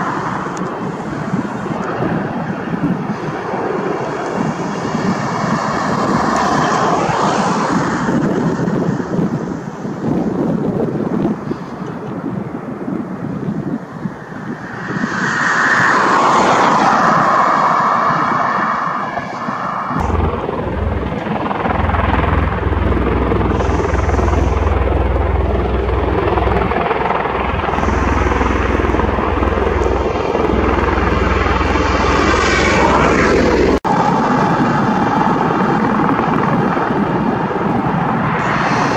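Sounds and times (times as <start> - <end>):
aircraft rotors and engines: 0.0 - 38.9.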